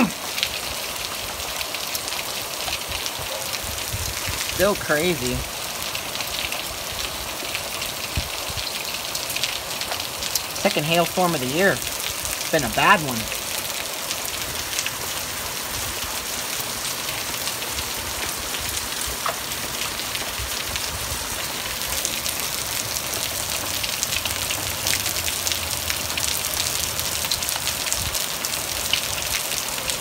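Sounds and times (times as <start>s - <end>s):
hail pattering on the ground: 0.0s - 30.0s.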